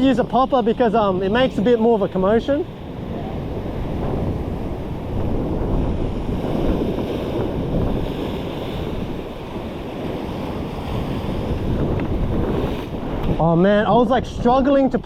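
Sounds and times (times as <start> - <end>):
ocean surf on rocks: 0.0 - 15.0
wind buffeting microphone: 0.0 - 15.0.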